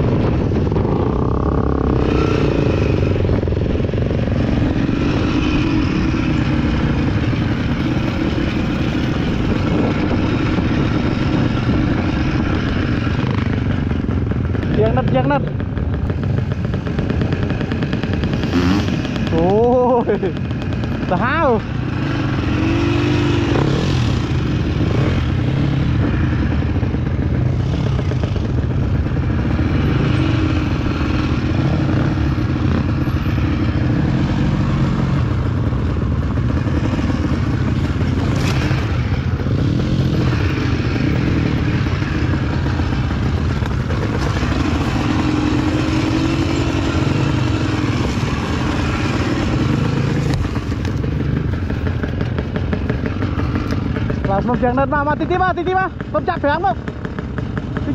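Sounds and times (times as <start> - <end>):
dirt bike engine revving: 0.0 - 55.4.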